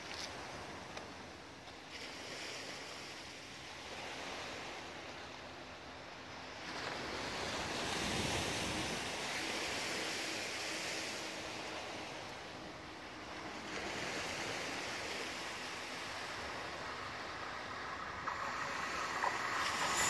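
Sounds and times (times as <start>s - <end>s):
small waves washing: 0.0s - 20.0s
wind: 0.0s - 20.0s.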